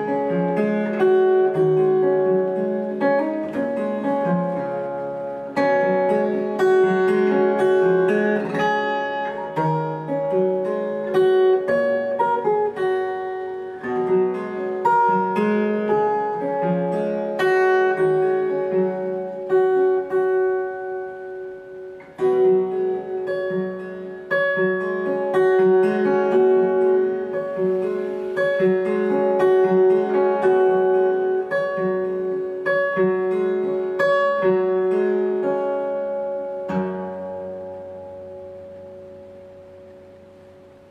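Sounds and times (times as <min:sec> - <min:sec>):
fingerstyle acoustic guitar: 0:00.0 - 0:40.9.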